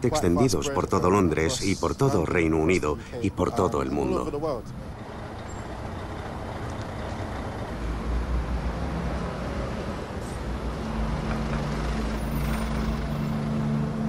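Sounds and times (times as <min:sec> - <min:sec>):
heavy vehicle engine rumble: 0:00.0 - 0:14.0
vehicles passing: 0:00.0 - 0:14.0.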